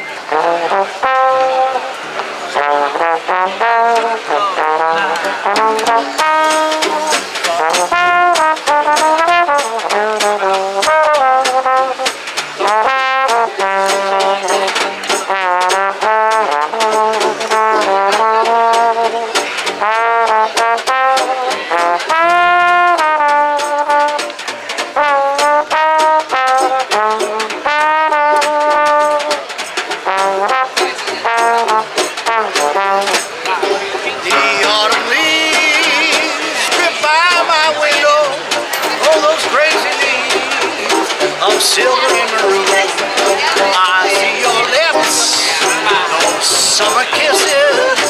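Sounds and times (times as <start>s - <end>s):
swing jazz band playing: 0.0s - 48.0s
trombone melody: 0.0s - 48.0s
upright double bass: 0.0s - 48.0s
snare drum and cymbal: 5.5s - 48.0s.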